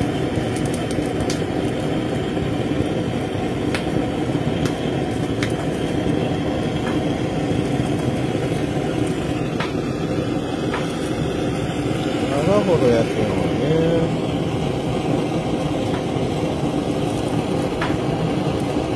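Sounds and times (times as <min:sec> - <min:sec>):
butane torch burning: 0:00.0 - 0:18.9.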